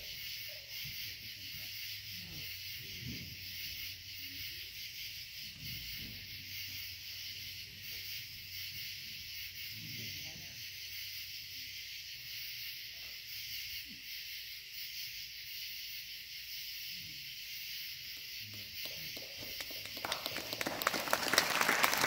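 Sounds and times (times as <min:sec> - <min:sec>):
night insects chorus: 0:00.0 - 0:22.0.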